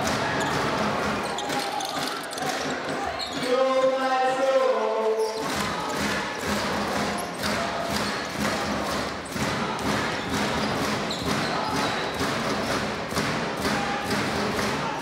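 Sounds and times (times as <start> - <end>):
arena crowd noise: 0.0 - 15.0.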